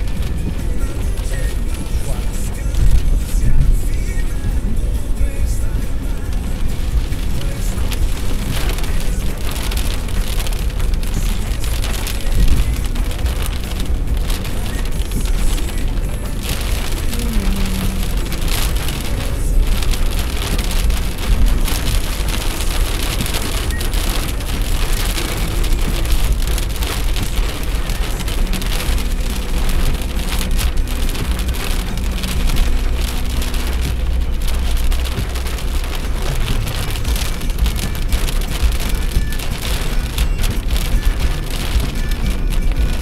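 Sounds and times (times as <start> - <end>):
constant low rumble: 0.0 - 43.0
heavy rain pouring: 0.0 - 43.0.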